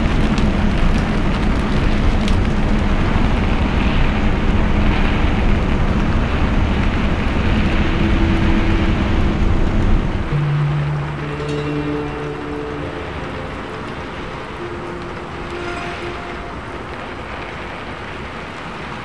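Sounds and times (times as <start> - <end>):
raindrops ticking: 0.0 - 19.0
tyres hissing on wet road: 0.0 - 19.0.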